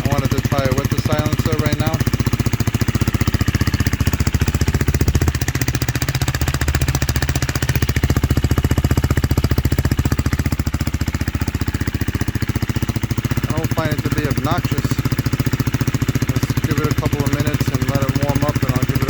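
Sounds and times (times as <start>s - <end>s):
motorcycle engine thumping idle: 0.0s - 19.0s.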